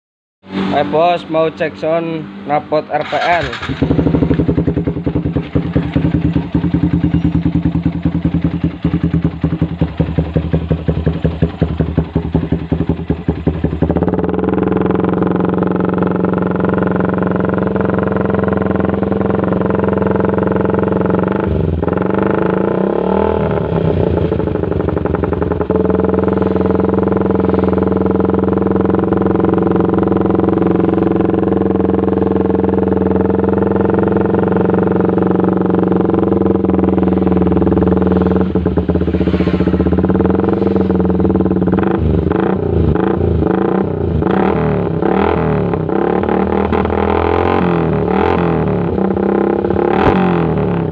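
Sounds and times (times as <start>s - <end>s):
loud motorcycle engine: 0.4s - 50.9s.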